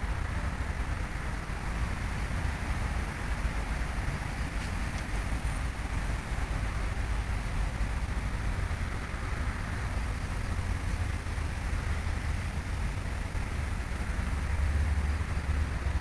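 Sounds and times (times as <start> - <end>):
distant road traffic hum: 0.0 - 16.0.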